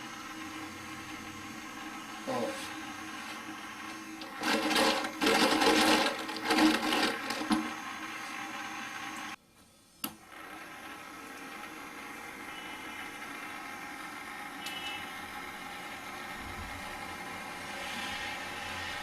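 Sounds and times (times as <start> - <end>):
small motor buzzing hum: 0.0 - 9.4, 10.2 - 19.0.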